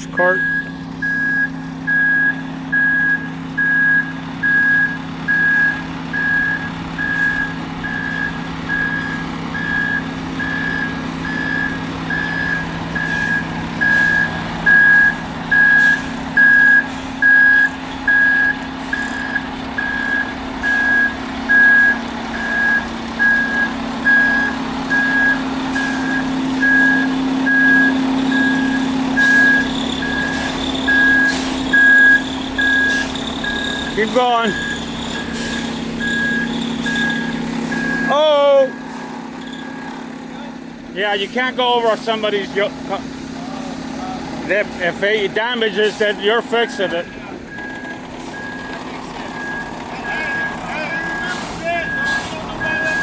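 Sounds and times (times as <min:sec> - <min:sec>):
reversing alarm beeping: 0:00.0 - 0:40.2, 0:41.0 - 0:43.0, 0:44.5 - 0:53.0
diesel engine drone: 0:00.0 - 0:53.0.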